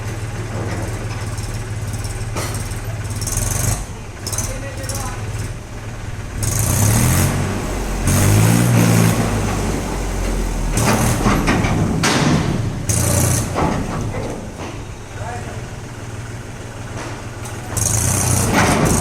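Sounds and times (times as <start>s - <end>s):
truck engine revving: 1.4s - 19.0s.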